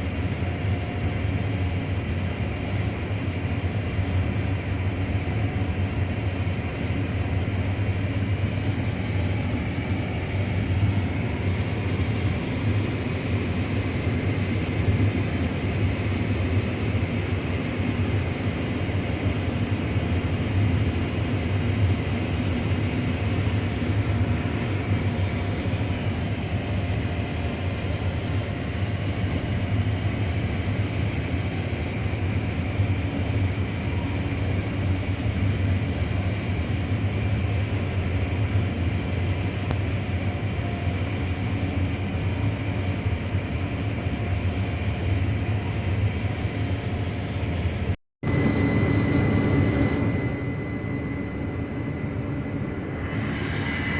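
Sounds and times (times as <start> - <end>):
machinery low hum: 0.0 - 53.9.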